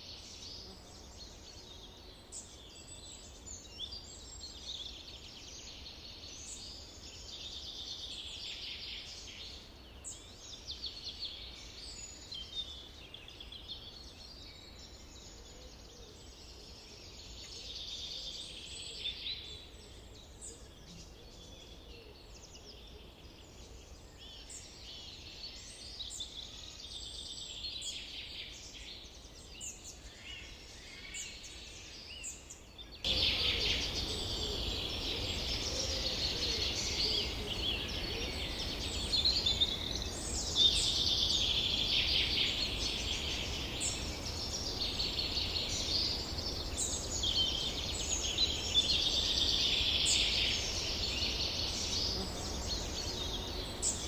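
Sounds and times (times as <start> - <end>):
birds singing: 0.0 - 54.0.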